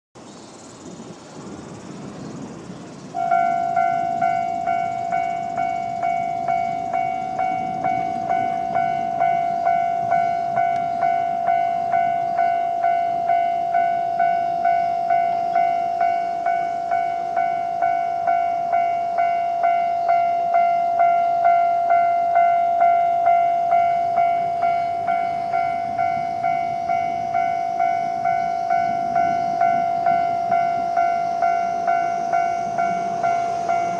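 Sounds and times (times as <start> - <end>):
level-crossing warning bell: 1.1 - 33.9.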